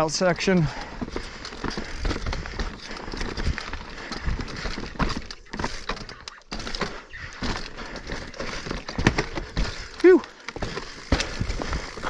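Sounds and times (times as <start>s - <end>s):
bike clacks and rattles: 0.0s - 12.0s
bike tyres rolling on dirt: 0.0s - 12.0s.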